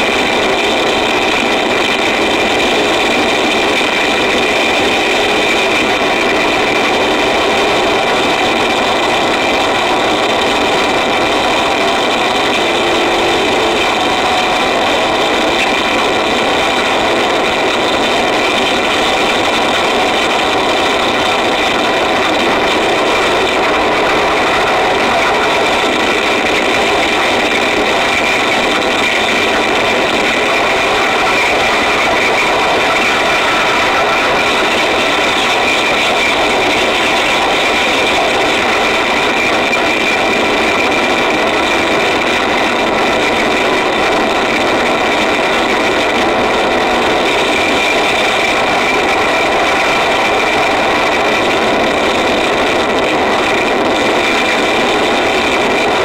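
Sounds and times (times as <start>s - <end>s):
distorted static: 0.0s - 56.0s
harsh noise music: 0.0s - 56.0s.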